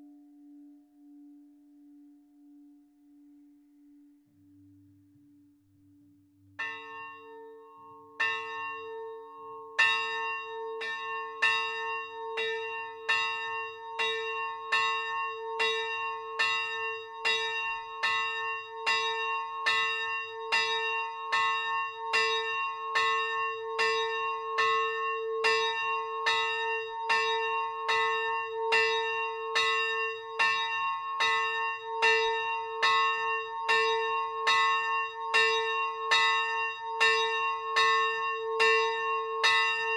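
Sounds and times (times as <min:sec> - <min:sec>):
church bell ringing: 0:06.6 - 0:39.9.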